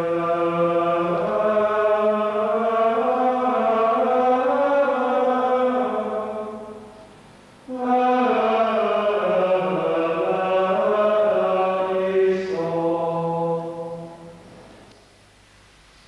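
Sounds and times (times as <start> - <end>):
slow chant-like singing: 0.0 - 7.1, 7.7 - 14.4.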